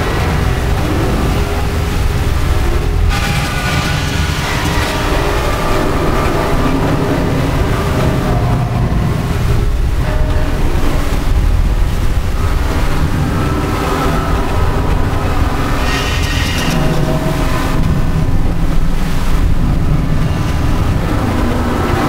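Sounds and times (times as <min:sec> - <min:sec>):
metal spring rumbling drone: 0:00.0 - 0:22.0.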